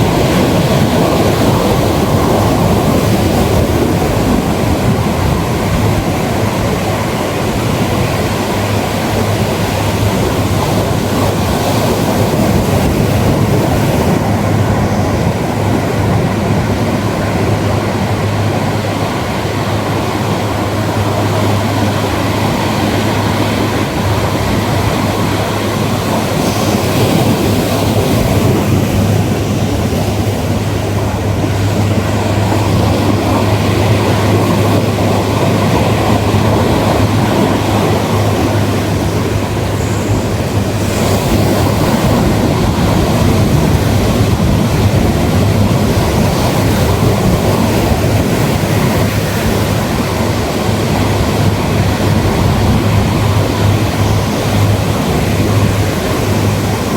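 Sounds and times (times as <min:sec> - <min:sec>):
ocean surf washing onto beach: 0:00.0 - 0:56.9.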